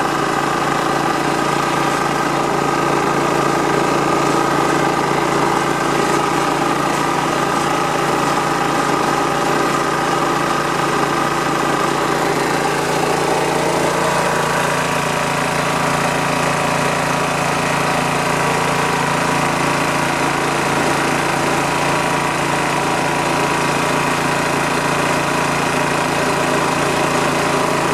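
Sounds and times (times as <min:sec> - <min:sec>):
air compressor engine running: 0:00.0 - 0:27.9.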